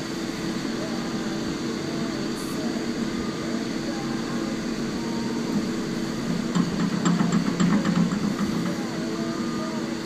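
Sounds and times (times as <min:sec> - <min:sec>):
heavy equipment engine droning: 0:00.0 - 0:10.0.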